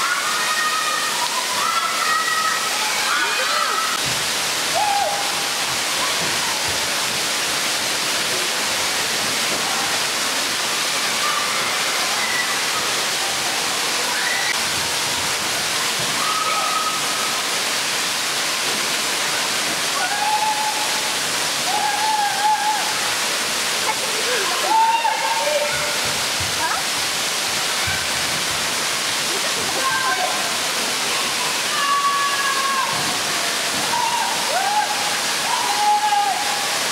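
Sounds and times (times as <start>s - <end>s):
water pouring and splashing: 0.0s - 36.9s.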